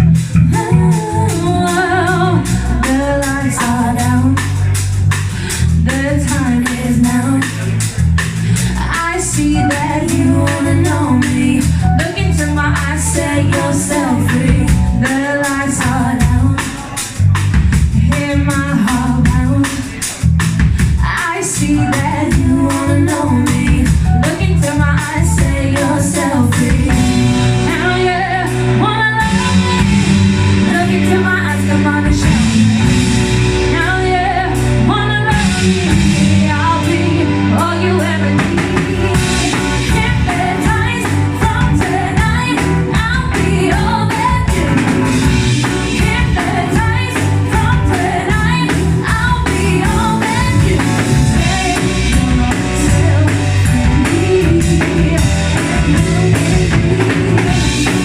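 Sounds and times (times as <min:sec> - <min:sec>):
bass line: 0:00.0 - 0:58.0
drum kit: 0:00.0 - 0:58.0
woman singing lead: 0:00.2 - 0:20.2, 0:20.8 - 0:58.0.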